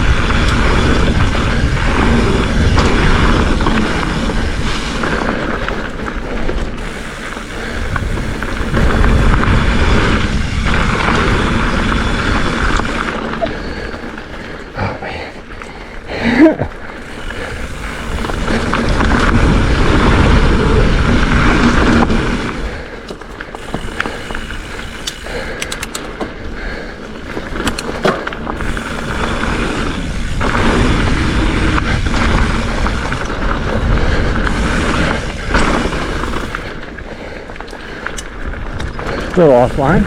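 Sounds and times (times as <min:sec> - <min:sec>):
bike chain and frame rattling: 0:00.0 - 0:40.0
knobby tyres on dirt: 0:00.0 - 0:40.0
wind rumble: 0:00.0 - 0:40.0.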